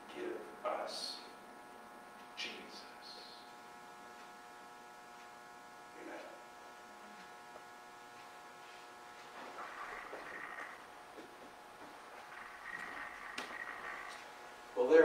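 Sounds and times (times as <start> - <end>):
faint electrical mains hum: 0.0 - 15.0.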